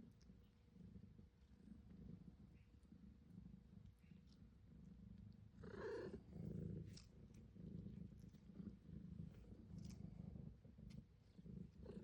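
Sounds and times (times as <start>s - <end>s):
kitten purring: 0.0s - 12.0s.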